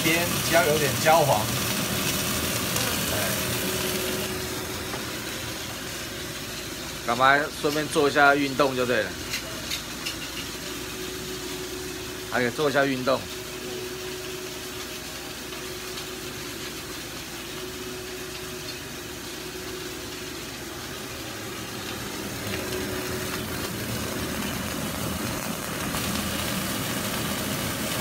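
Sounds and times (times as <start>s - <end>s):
meat sizzling in a frying pan: 0.0s - 28.0s
steady hum: 0.0s - 28.0s.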